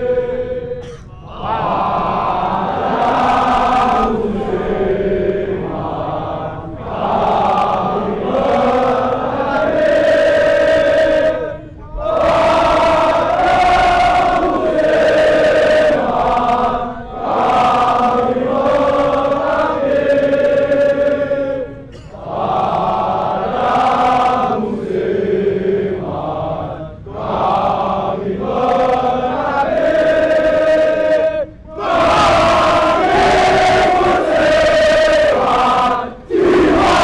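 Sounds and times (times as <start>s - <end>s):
crowd singing a chant: 0.0s - 37.0s.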